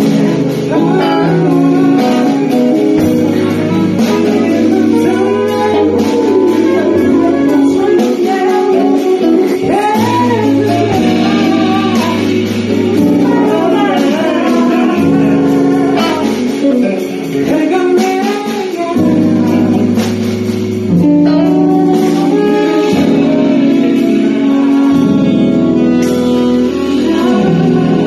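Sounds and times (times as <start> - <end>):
guitar and bass chords: 0.0 - 28.0
person singing: 0.0 - 28.0.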